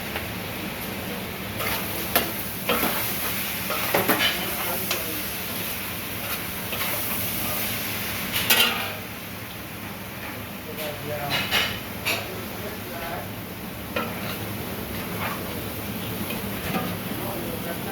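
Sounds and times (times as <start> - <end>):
food sizzling in a pan: 0.0 - 17.9.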